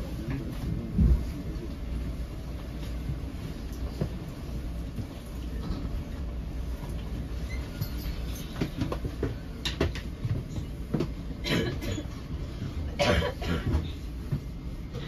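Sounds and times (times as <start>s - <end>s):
train coach rumbling: 0.0s - 15.0s.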